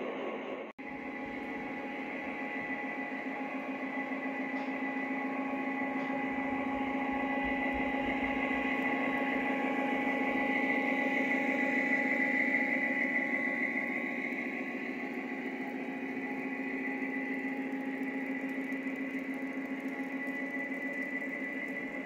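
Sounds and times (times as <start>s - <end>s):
model train hum with whine: 0.0s - 22.0s.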